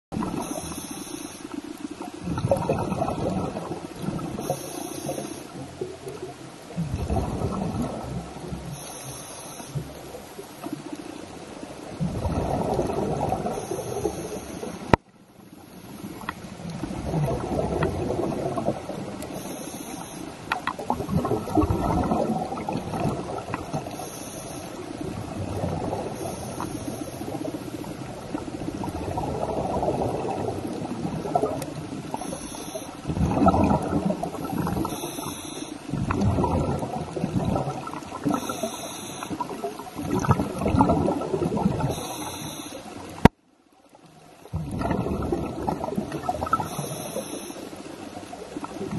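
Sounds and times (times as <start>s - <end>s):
underwater bubbling and gurgling: 0.1s - 48.9s.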